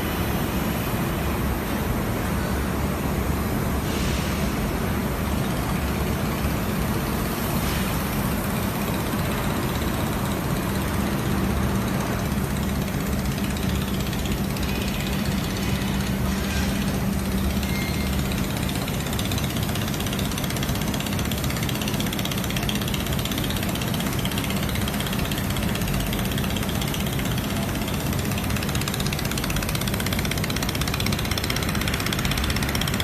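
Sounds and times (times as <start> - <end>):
machinery humming: 0.0 - 33.0.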